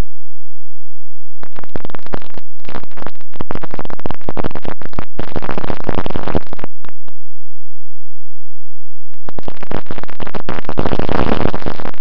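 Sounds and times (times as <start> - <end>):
distorted wind rushing: 0.1 - 12.0.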